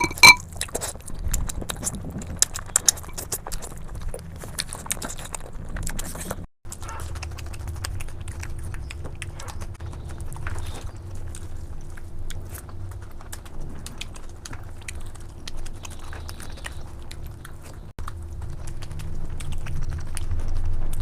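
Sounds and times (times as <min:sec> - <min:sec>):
chewing with mouth clicks: 0:00.0 - 0:21.0.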